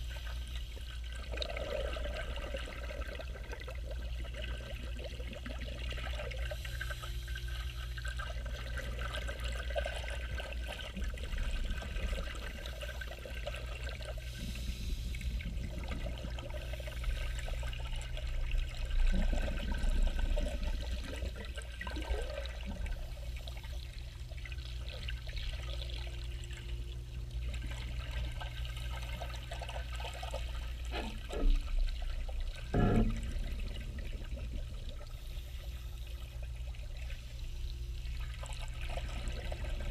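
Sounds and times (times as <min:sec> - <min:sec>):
regulator bubbles underwater: 0:00.0 - 0:39.9
steady low hum: 0:00.0 - 0:39.9.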